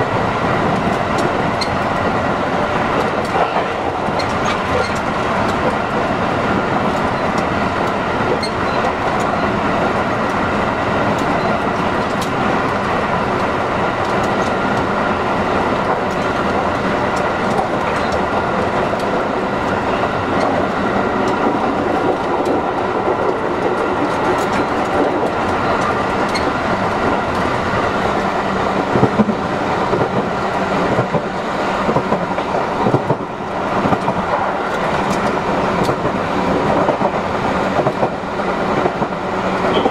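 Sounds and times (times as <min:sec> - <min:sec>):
train knocks: 0:00.0 - 0:39.9
train wheel and rail noise: 0:00.0 - 0:39.9.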